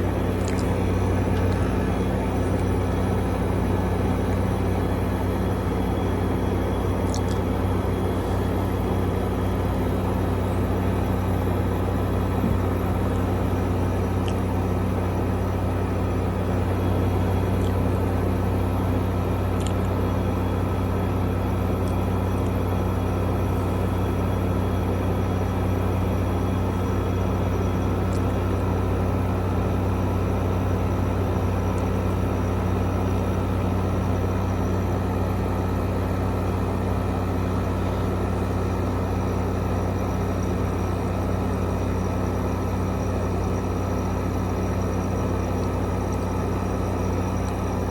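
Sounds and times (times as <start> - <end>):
air conditioner running: 0.0 - 47.9.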